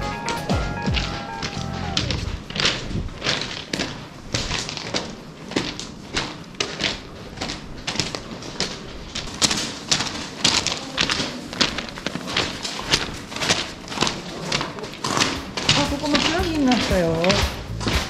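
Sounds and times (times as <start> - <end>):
footsteps on gravel: 0.0 - 18.0.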